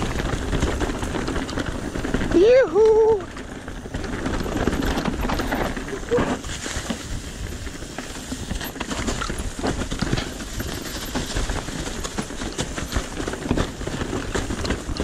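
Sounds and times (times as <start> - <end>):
bike clattering and rattling: 0.0 - 15.0
tyres crunching over leaves: 0.0 - 15.0.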